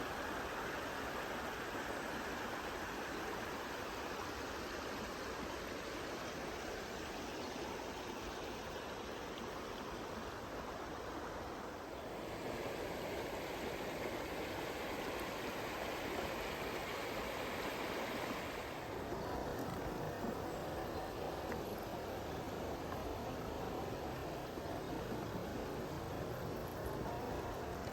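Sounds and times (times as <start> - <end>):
river water rushing over stones: 0.0 - 27.9.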